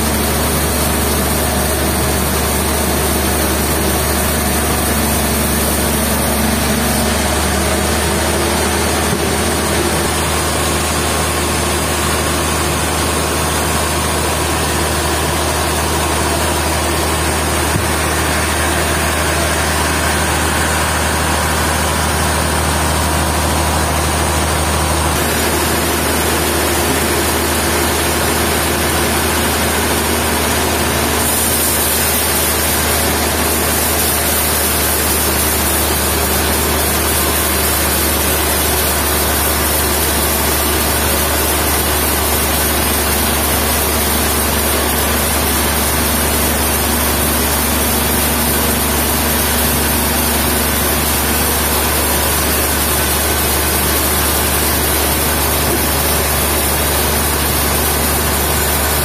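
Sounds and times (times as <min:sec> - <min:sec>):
heavy machinery hum and hiss: 0:00.0 - 0:59.0.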